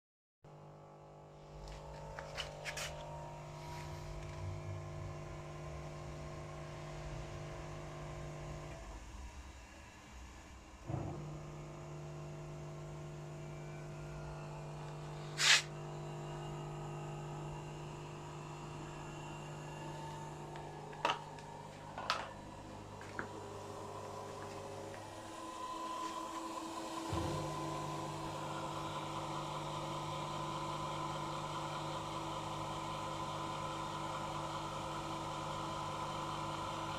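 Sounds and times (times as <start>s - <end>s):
washing machine motor humming: 0.7s - 9.1s, 10.8s - 36.9s.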